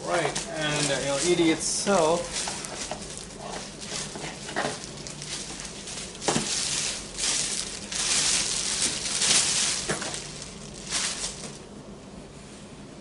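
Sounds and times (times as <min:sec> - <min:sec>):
plastic wrapping crinkling: 0:00.0 - 0:11.7.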